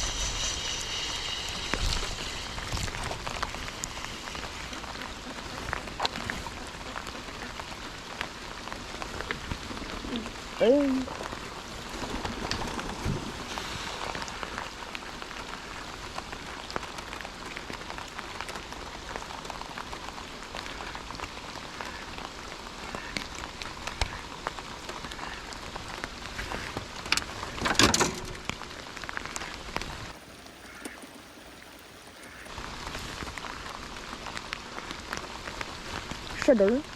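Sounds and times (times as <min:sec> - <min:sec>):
steady rain hissing: 0:00.0 - 0:36.9.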